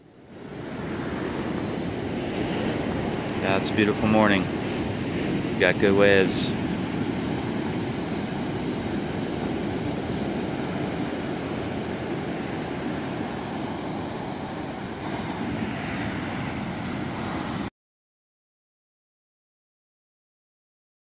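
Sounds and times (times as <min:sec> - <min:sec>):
heavy surf breaking: 0:00.1 - 0:17.7.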